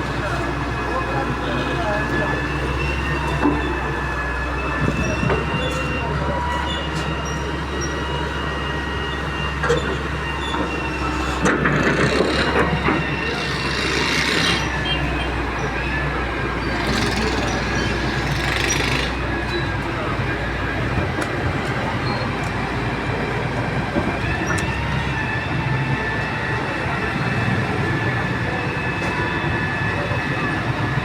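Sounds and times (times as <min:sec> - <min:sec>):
excavator diesel engine humming: 0:00.0 - 0:31.0
hydraulic whine: 0:00.0 - 0:31.0.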